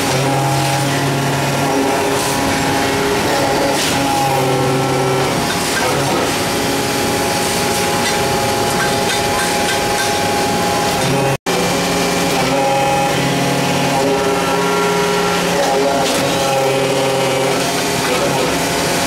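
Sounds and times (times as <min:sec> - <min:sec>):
powder press machine running: 0:00.0 - 0:19.0.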